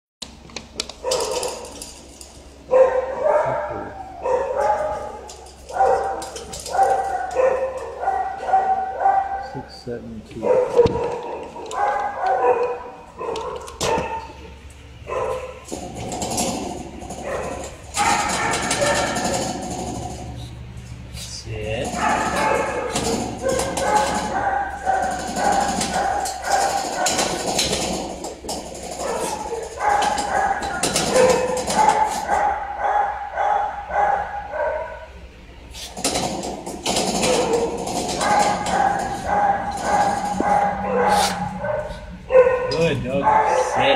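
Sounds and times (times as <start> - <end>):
dog barking: 1.0 - 1.8, 2.7 - 9.7, 10.4 - 15.7, 16.3 - 20.2, 21.8 - 35.1, 36.1 - 43.9.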